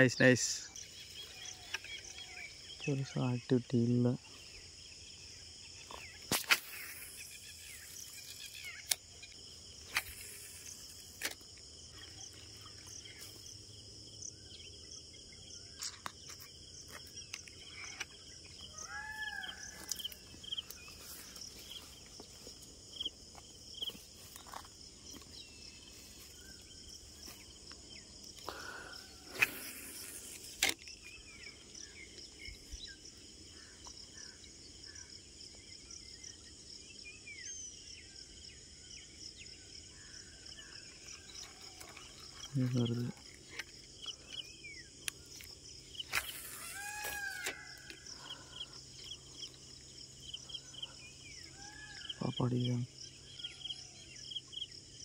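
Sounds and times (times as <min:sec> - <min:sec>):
birds chirping: 0:00.0 - 0:06.3, 0:07.0 - 0:55.0
insects droning: 0:00.0 - 0:55.0.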